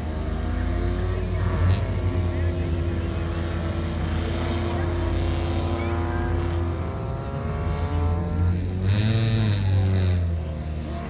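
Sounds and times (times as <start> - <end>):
engine revving up and down: 0.0 - 11.0
race car engines running hard: 0.0 - 11.0.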